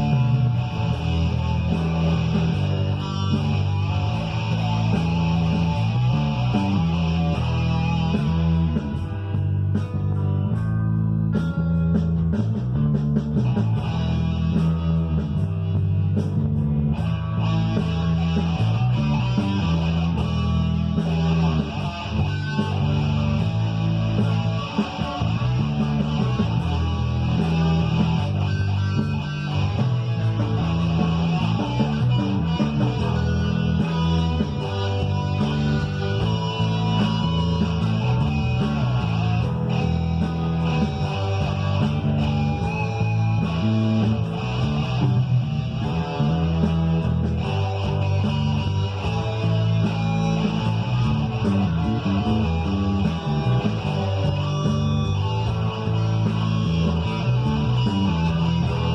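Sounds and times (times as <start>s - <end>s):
electric guitar: 0.0s - 58.9s
rock backing track with bass and drums: 0.0s - 58.9s.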